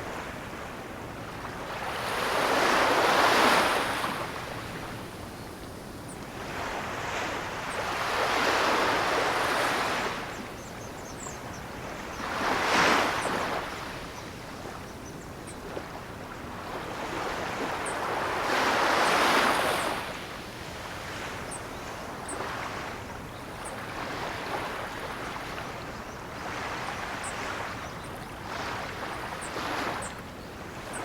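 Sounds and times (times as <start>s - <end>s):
ocean waves breaking and washing: 0.0s - 31.0s.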